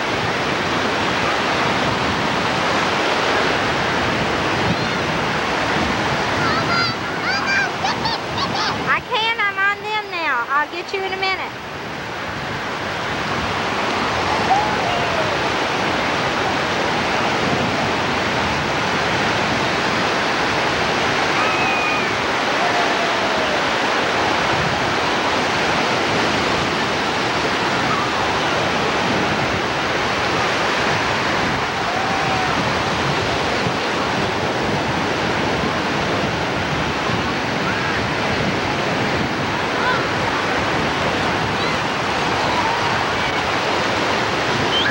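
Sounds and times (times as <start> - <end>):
ocean surf breaking: 0.0 - 44.9.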